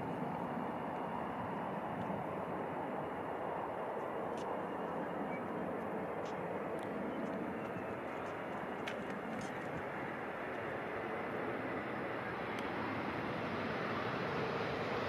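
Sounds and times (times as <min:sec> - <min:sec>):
jet airliner engine noise: 0:00.0 - 0:15.0.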